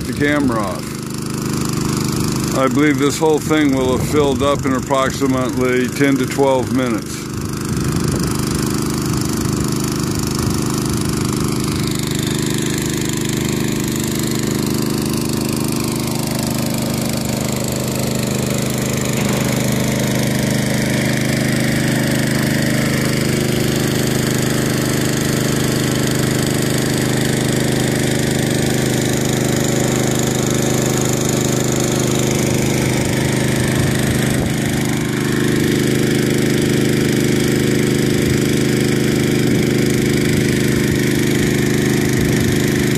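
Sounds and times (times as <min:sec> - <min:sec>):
water pump engine running: 0:00.0 - 0:42.9.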